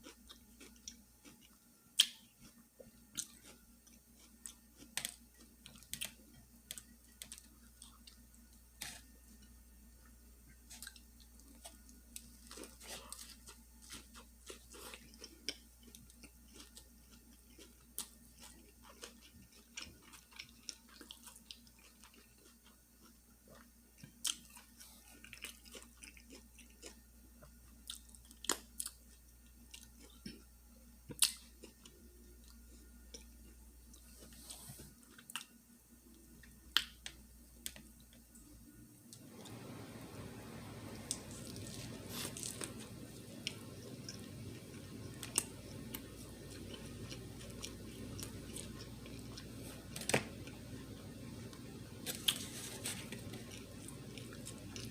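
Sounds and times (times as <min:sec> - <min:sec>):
close-miked chewing: 0:00.0 - 0:30.5, 0:40.7 - 0:54.9.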